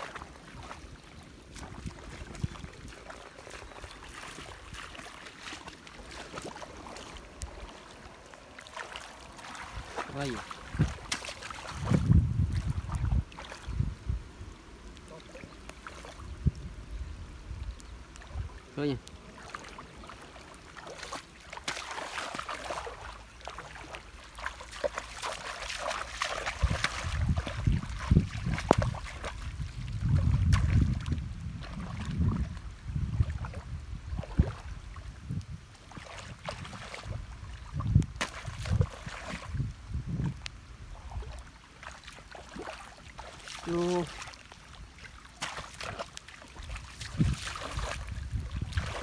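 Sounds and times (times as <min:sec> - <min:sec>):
water splashing and trickling: 0:00.0 - 0:49.0.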